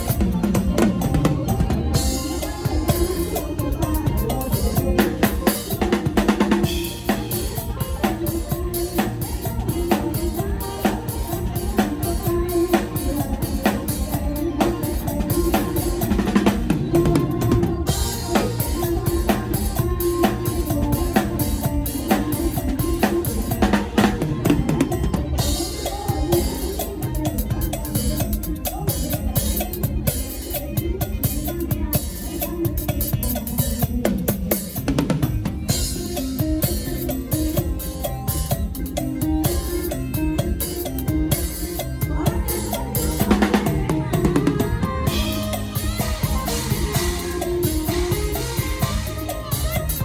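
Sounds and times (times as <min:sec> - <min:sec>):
band with bass backing: 0:00.0 - 0:50.0
drum kit groove: 0:00.0 - 0:50.0.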